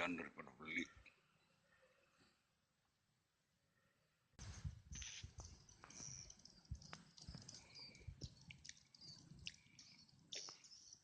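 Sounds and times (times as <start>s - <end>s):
faint bird chirps: 0.7s - 2.4s, 3.6s - 11.0s.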